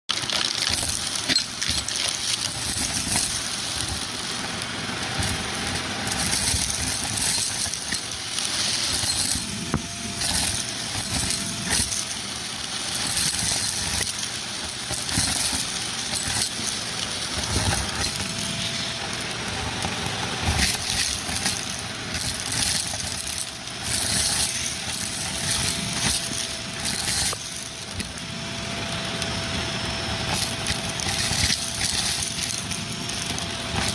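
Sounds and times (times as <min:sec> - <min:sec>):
debris crackling through wand: 0:00.1 - 0:33.9
vacuum cleaner motor hum: 0:00.1 - 0:33.9.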